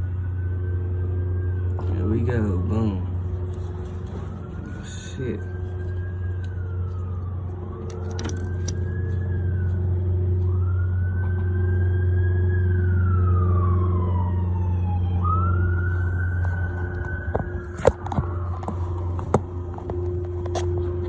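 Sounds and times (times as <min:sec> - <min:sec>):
siren wailing: 0:00.0 - 0:21.0
steady low hum: 0:00.0 - 0:21.0.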